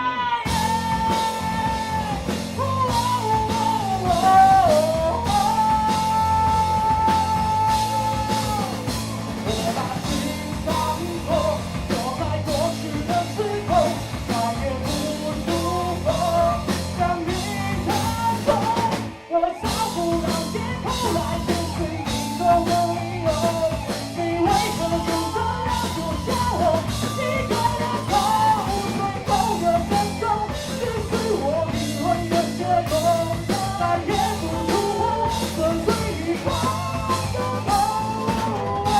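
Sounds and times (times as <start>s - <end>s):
person singing: 0.0s - 38.9s
rock band playing live: 0.0s - 38.9s.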